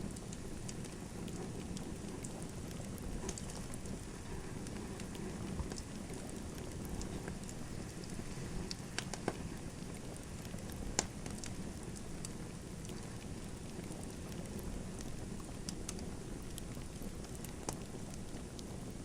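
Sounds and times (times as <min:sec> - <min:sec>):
low rush of flames: 0:00.0 - 0:19.0
wood fire crackling and popping: 0:00.0 - 0:19.0.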